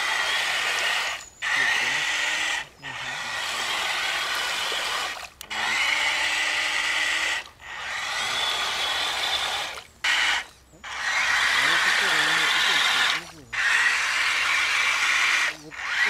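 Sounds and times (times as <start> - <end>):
electric motor whining: 0.0 - 16.0
wheels churning through mud: 0.0 - 16.0.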